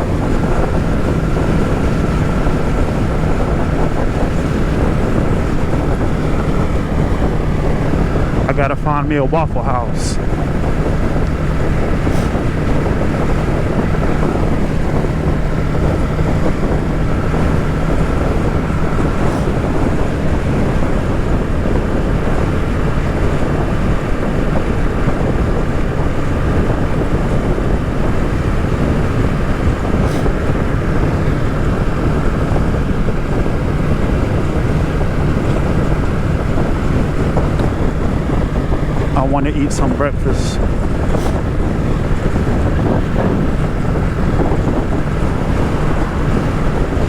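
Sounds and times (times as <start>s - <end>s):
motorcycle engine drone: 0.0s - 47.0s
wind buffeting microphone: 0.0s - 47.0s.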